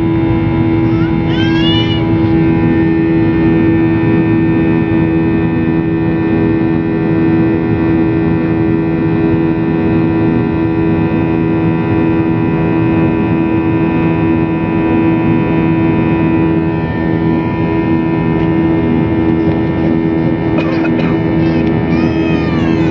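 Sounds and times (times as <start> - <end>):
airliner engines droning: 0.0 - 22.9.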